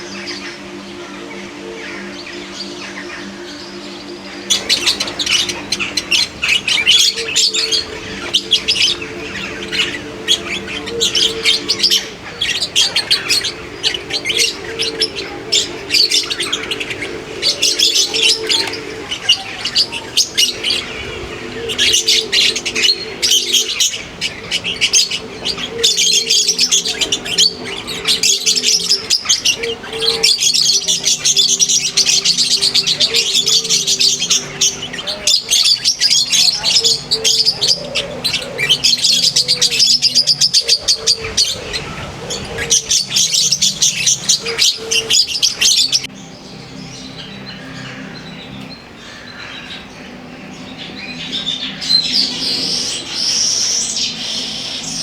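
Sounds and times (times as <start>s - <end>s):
birds chirping and twittering: 0.0s - 55.0s
low held tones: 0.0s - 55.0s.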